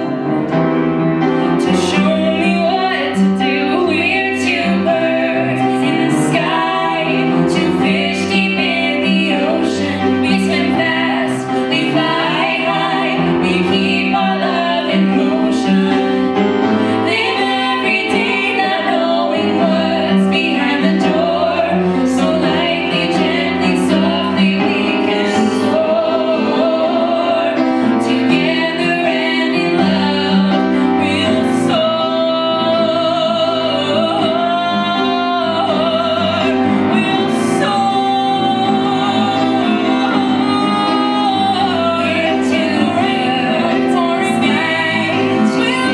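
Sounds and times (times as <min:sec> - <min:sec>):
woman singing: 0:00.0 - 0:00.4, 0:01.6 - 0:45.9.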